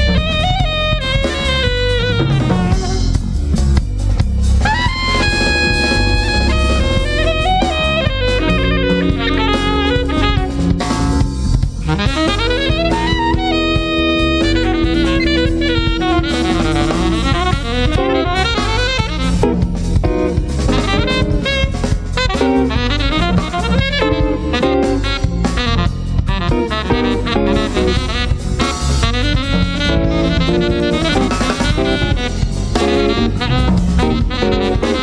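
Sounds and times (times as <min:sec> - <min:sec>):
bass: 0:00.0 - 0:35.0
drum kit: 0:00.0 - 0:35.0
saxophone solo: 0:00.0 - 0:35.0.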